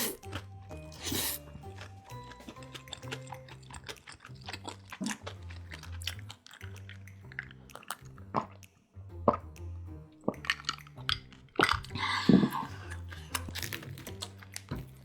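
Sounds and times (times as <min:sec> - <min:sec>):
crisp chewing crackles: 0:00.0 - 0:08.8, 0:10.2 - 0:15.0
background music with bass: 0:00.0 - 0:15.0.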